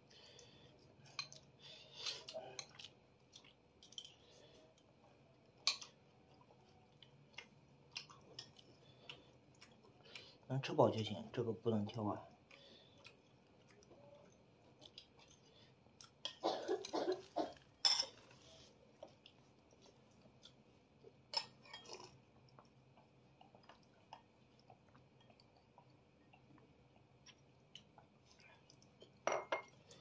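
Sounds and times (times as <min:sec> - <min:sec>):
person chewing: 0:00.2 - 0:10.5, 0:12.4 - 0:20.7, 0:21.4 - 0:29.2.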